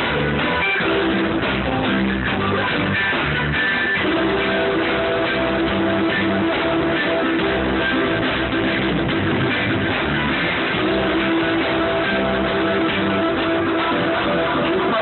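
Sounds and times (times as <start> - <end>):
guitar: 0.0 - 15.0
live reggae band playing: 0.0 - 15.0.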